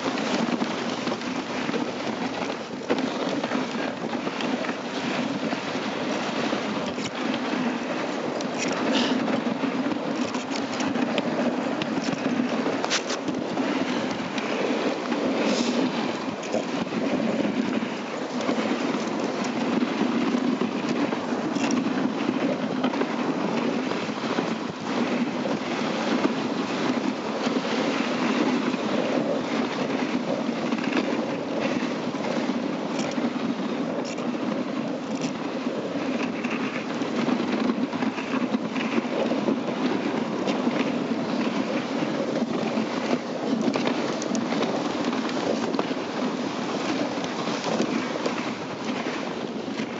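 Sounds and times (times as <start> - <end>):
sled clicks and rattles: 0.0 - 49.9
sled runners scraping on snow: 0.0 - 49.9.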